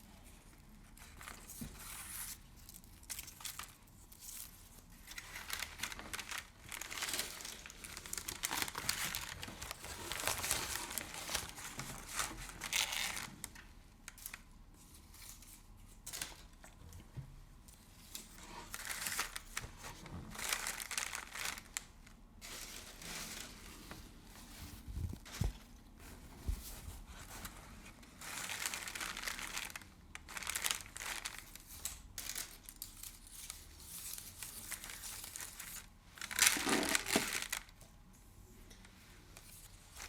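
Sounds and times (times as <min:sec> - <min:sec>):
crinkly material rustling: 0:00.0 - 0:38.0, 0:38.6 - 0:40.0.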